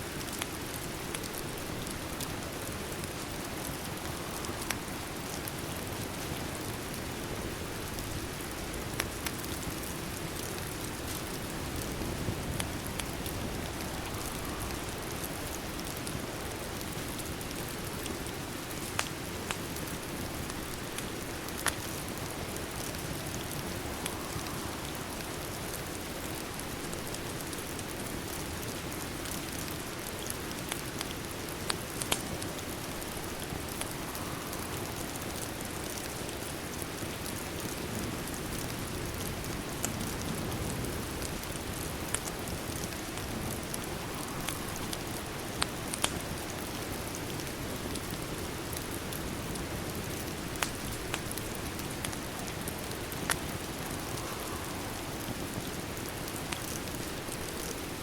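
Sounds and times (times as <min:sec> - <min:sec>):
rain on a window: 0:00.0 - 0:58.0
wood fire crackling: 0:00.0 - 0:58.0.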